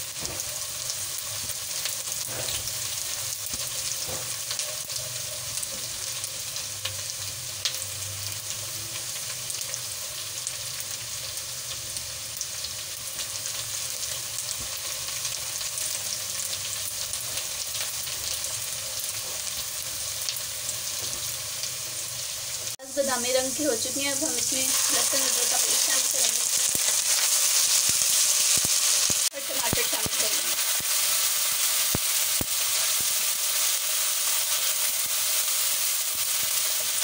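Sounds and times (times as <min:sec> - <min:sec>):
onions sizzling in oil: 0:00.0 - 0:37.0.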